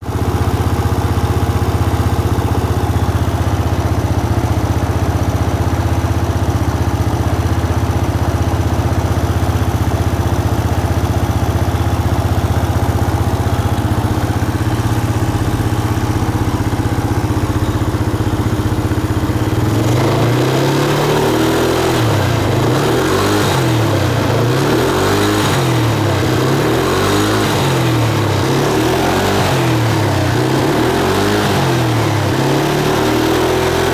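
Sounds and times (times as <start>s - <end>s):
scooter engine idling: 0.0s - 33.9s
scooter engine revving: 0.0s - 33.9s.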